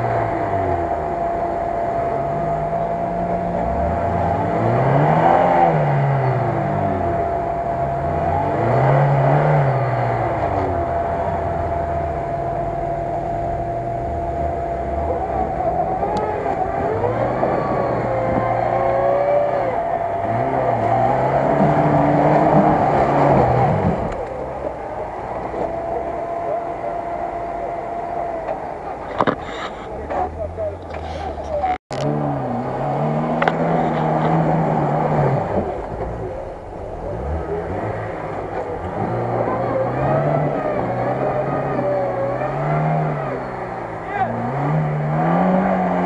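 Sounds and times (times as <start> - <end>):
car engine revving: 0.0 - 46.0
thin whine: 0.0 - 46.0.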